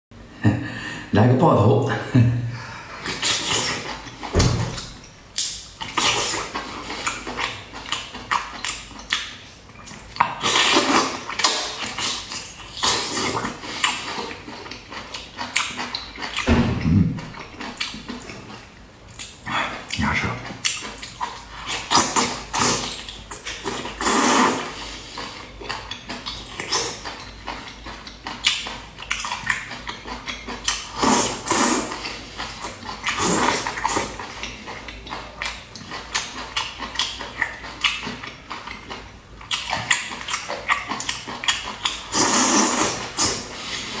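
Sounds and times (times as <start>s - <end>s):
wet chewing and slurping: 3.0s - 44.0s.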